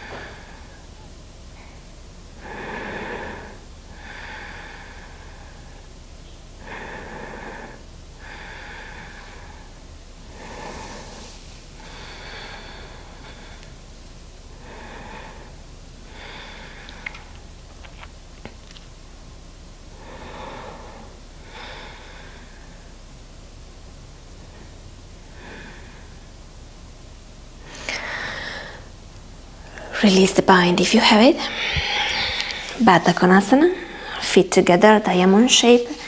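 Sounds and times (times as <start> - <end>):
woman breathing slowly: 0.0 - 17.5, 19.9 - 23.1, 24.4 - 26.4, 27.6 - 34.3.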